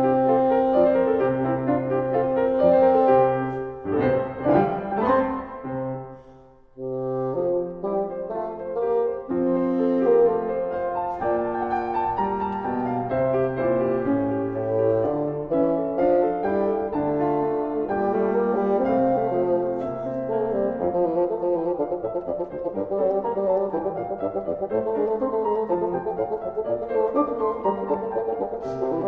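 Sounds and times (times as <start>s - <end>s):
bassoon playing: 0.0s - 29.0s
piano accompaniment: 0.0s - 29.0s.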